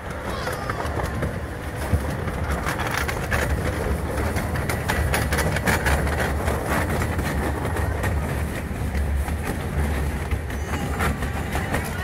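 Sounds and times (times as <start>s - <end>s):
miniature train rumbling on track: 0.0s - 12.0s
wheels clattering on rails: 0.0s - 12.0s.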